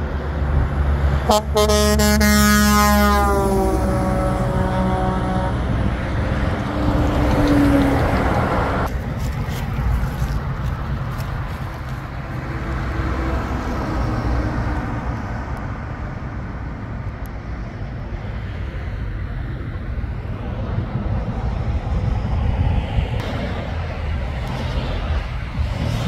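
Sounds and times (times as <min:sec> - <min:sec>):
truck engine and tyre rumble: 0:00.0 - 0:26.0.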